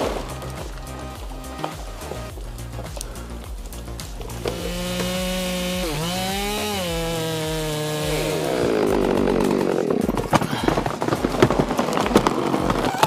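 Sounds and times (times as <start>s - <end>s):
chainsaw engine running: 0.0s - 12.7s.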